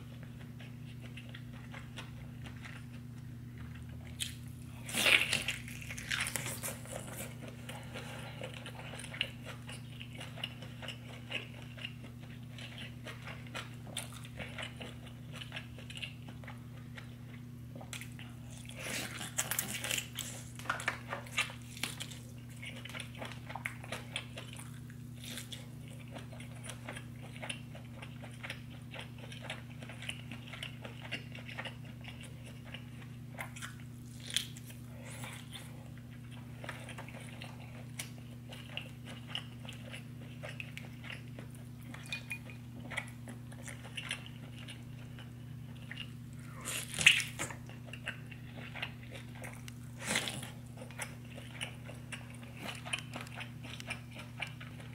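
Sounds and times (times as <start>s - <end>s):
chewing and biting: 0.0s - 54.9s
steady low hum: 0.0s - 54.9s.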